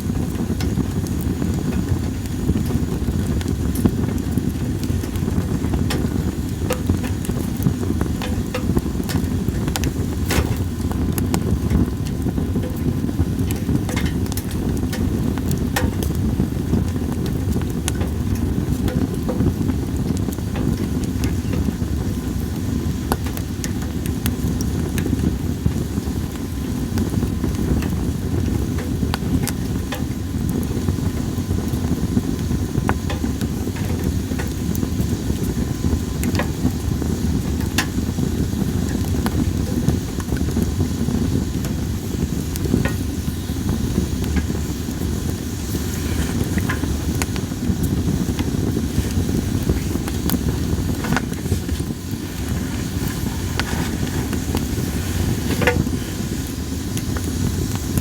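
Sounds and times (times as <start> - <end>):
campfire logs crackling: 0.0 - 58.0.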